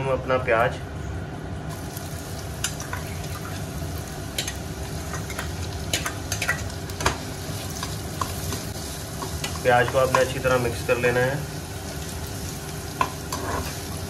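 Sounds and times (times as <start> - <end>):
onion sizzling in hot oil: 1.7 - 14.0.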